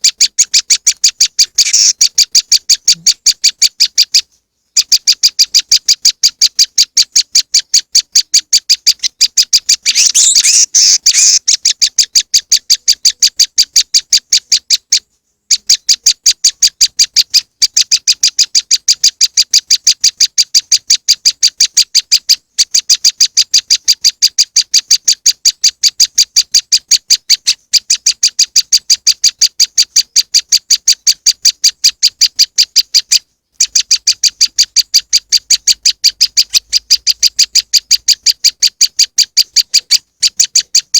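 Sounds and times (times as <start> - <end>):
harsh bird chattering: 0.0 - 4.2, 4.8 - 40.9.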